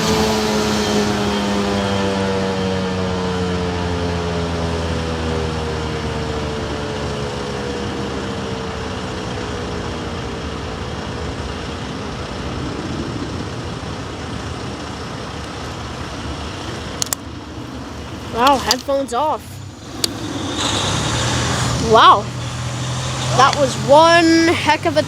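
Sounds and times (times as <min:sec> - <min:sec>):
road traffic noise: 0:00.0 - 0:25.0
warning siren winding down: 0:00.0 - 0:25.0.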